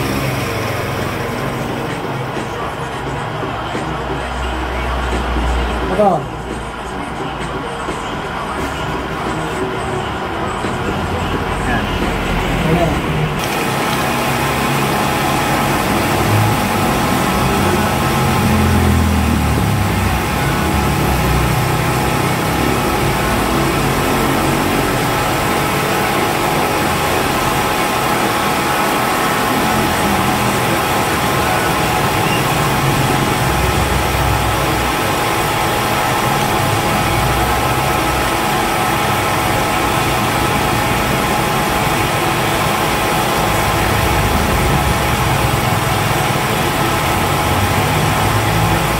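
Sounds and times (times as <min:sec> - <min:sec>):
milling machine cutting metal: 0:00.0 - 0:48.9.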